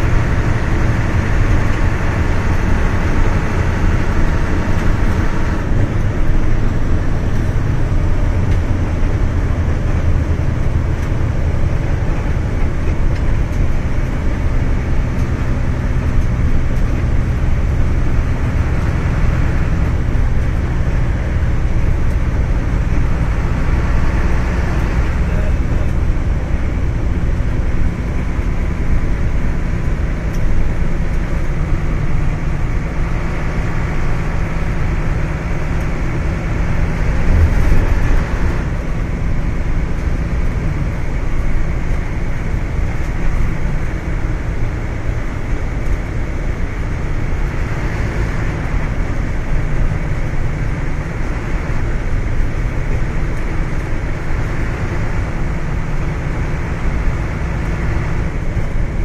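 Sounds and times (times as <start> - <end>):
engine hum: 0.0 - 59.0
tyre and road noise: 0.0 - 59.0.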